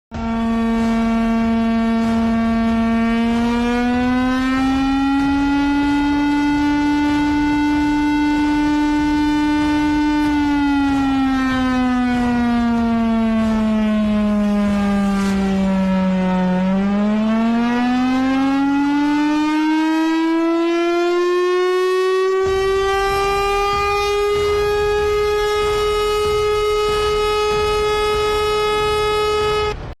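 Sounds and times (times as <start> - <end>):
air-raid warning siren: 0.1 - 30.0.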